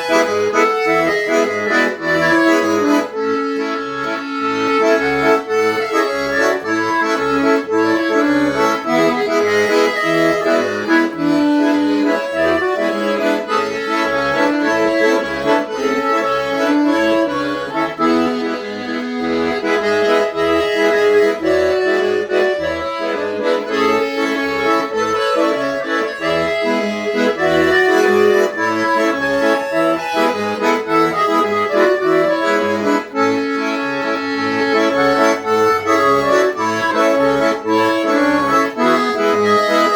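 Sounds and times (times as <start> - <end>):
accordion melody with bass chords: 0.0 - 39.9.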